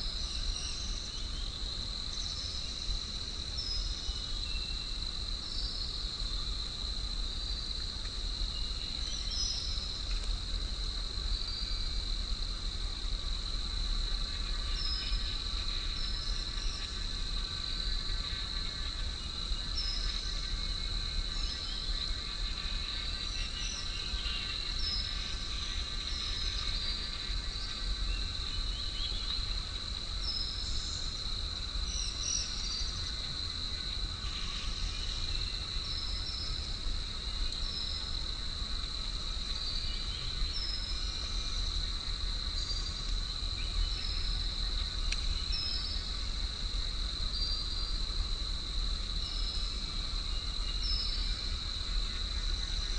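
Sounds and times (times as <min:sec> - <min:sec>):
insects droning: 0:00.0 - 0:52.9.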